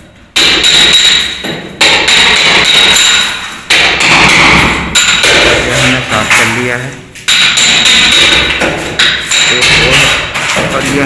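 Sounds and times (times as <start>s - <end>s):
hammering on metal box: 0.4s - 5.7s, 7.3s - 10.8s
plaster chipping: 0.4s - 6.5s, 7.2s - 11.0s.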